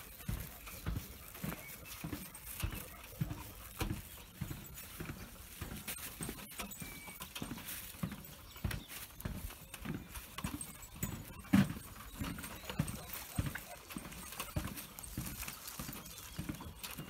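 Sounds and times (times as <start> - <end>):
footsteps on wooden boardwalk: 0.0 - 17.0.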